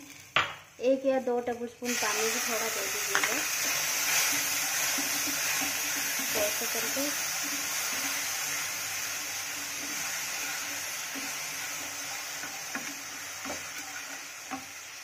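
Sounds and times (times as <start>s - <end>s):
sugar bubbling and sizzling in pan: 0.0s - 0.5s, 1.8s - 15.0s
wooden spatula scraping: 2.1s - 15.0s.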